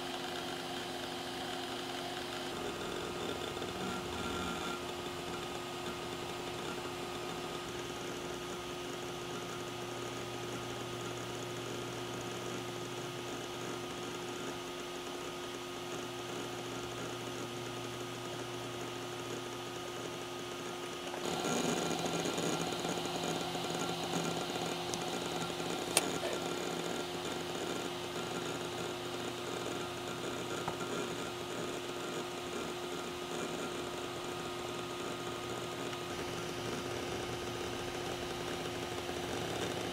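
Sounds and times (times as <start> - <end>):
hard drive spinning up: 0.0 - 39.9.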